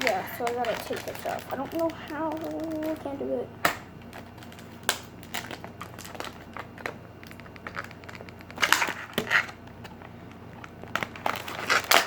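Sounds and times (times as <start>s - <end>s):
plastic crunching: 0.0s - 12.0s
plastic packaging clicks and crackles: 0.0s - 12.0s.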